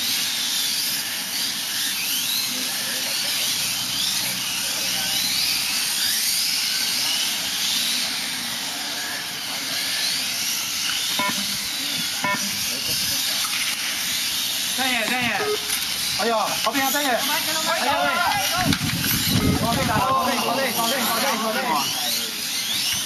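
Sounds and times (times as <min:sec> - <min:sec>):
electric motors whining: 0:00.0 - 0:23.0.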